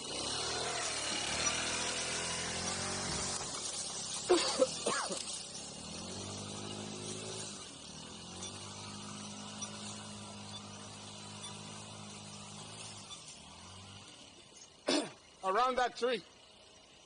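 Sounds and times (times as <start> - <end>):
electric motor whining: 0.0 - 14.8.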